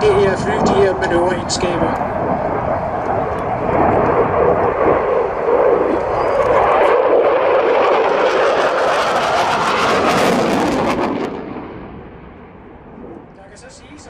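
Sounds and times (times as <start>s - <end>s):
jet engine roaring past: 0.0s - 14.0s.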